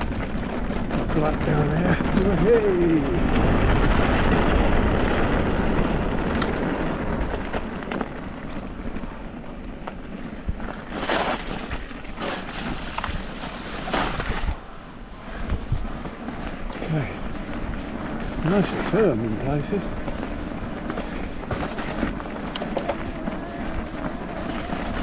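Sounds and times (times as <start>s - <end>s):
bike tyres crunching over stones: 0.0s - 25.0s
wind rushing over microphone: 0.0s - 25.0s.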